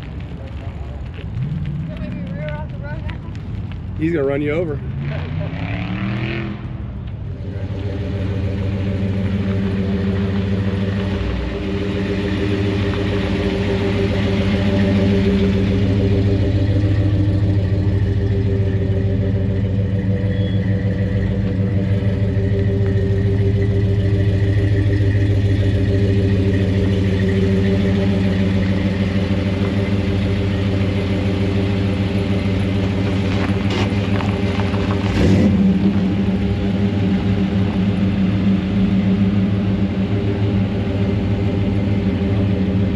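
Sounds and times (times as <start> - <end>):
truck engine running: 0.0 - 5.6, 6.8 - 42.9.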